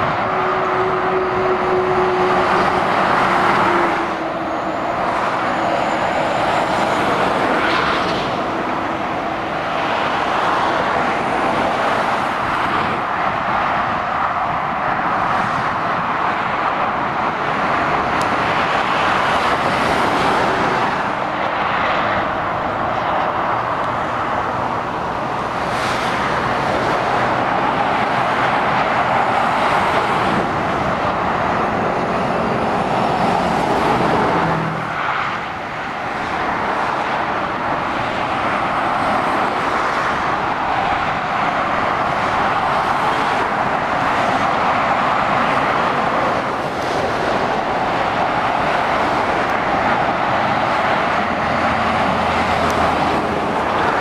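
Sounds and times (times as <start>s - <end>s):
motorway traffic passing: 0.0s - 54.0s.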